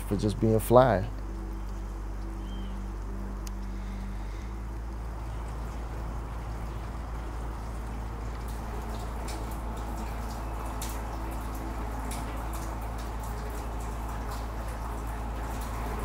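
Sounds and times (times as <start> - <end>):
steady low rumble: 0.0 - 16.0
water dripping: 0.0 - 16.0.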